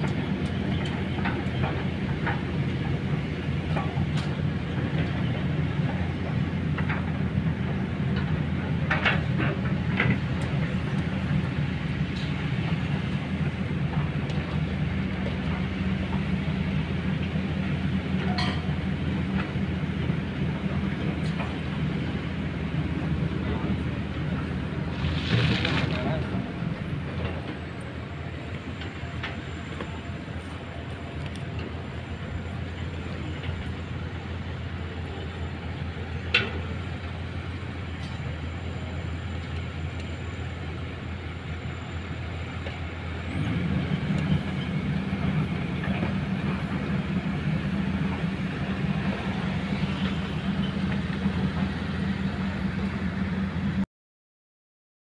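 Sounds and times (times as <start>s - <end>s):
excavator diesel engine running: 0.0s - 53.8s.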